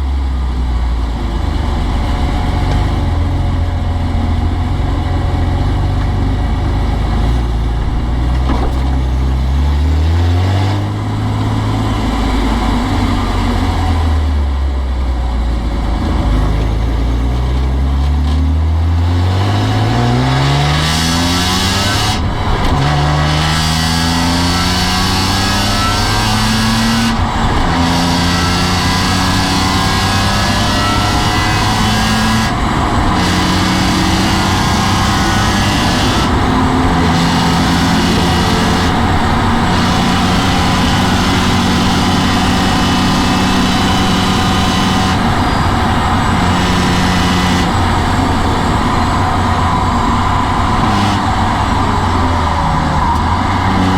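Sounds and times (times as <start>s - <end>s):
car engine at high revs: 0.0s - 53.9s.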